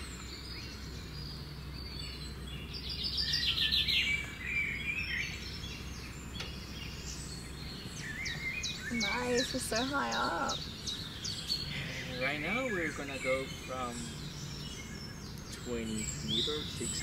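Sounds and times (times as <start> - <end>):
birds chirping: 0.0 - 17.0
low steady hum: 0.0 - 17.0.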